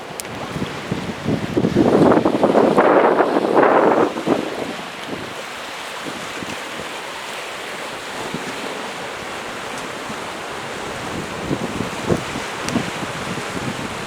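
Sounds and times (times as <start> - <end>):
sea waves on shore: 0.0 - 14.0
wind: 0.0 - 14.0.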